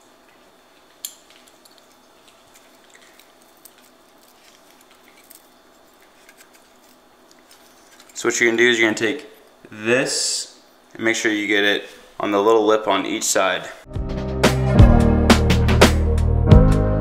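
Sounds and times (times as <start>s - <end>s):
low room hiss: 0.0s - 13.9s.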